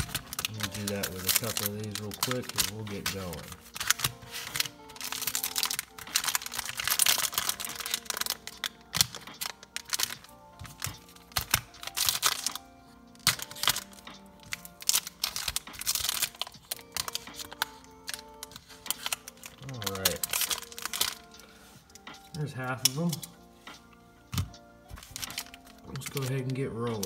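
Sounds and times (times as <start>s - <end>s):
foil wrappers crinkling: 0.0s - 23.4s, 24.2s - 27.0s
background music: 0.0s - 27.0s.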